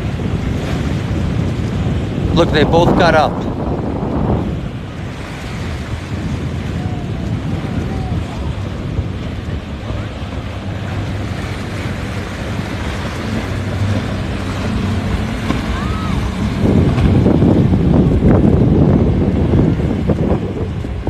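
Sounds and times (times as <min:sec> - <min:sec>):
boat engine drone: 0:00.0 - 0:21.0
breaking surf: 0:00.0 - 0:21.0
wind buffeting microphone: 0:00.0 - 0:21.0.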